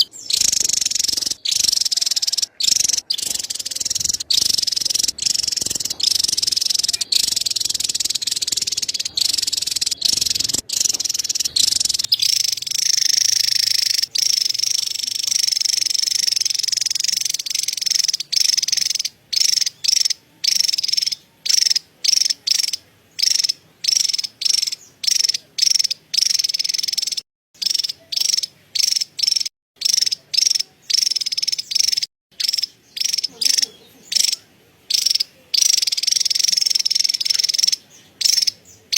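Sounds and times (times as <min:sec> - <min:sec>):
bird chattering call: 0:00.0 - 0:38.9.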